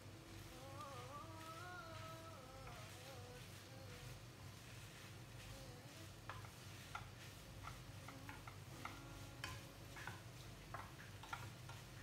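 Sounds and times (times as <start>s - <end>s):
faint sizzle: 0.0s - 12.0s
utensil scraping a frying pan: 0.0s - 12.0s.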